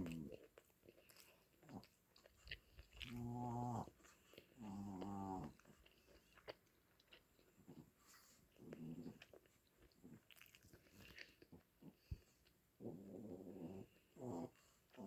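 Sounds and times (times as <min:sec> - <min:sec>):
soft wet chewing: 0:00.0 - 0:15.0.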